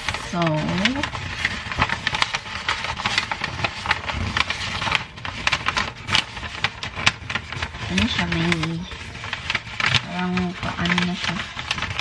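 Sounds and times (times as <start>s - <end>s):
wrapping paper crinkling: 0.0s - 12.0s.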